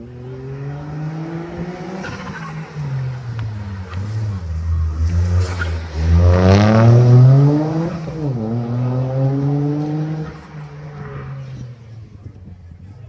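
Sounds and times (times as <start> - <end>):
race car engine accelerating: 0.0 - 12.6.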